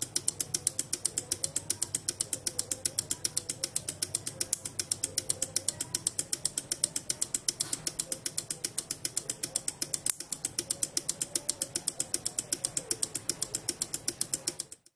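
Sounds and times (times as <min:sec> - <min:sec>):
relays clicking: 0:00.0 - 0:14.9.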